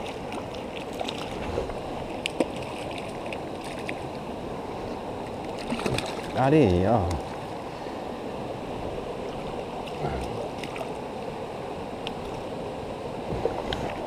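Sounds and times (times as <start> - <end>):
river rushing over stones: 0.0 - 14.0.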